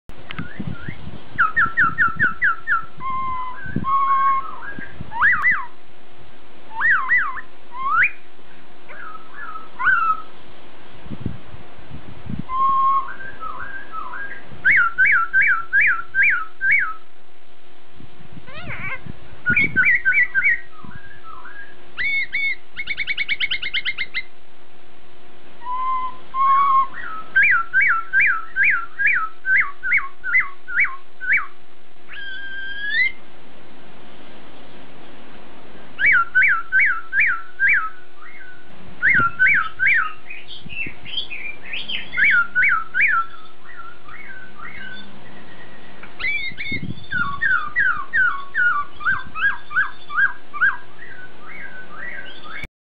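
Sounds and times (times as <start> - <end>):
bird singing loud whistles: 0.4 - 5.8, 6.7 - 8.2, 8.9 - 10.3, 12.5 - 17.0, 18.5 - 24.3, 25.6 - 33.2, 36.0 - 52.7
bird trill: 0.4 - 5.8, 6.7 - 8.3, 8.9 - 10.3, 12.5 - 17.1, 18.5 - 24.3, 25.6 - 33.2, 36.0 - 52.7.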